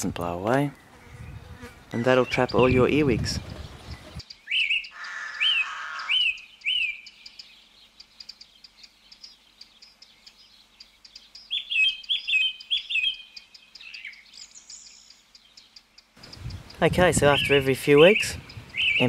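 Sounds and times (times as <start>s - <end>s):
songbird chirping: 0.0s - 19.0s
bird twittering: 0.7s - 19.0s.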